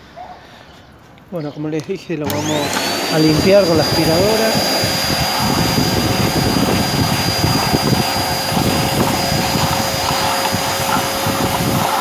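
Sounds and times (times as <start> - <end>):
vacuum cleaner whining: 2.2 - 12.0.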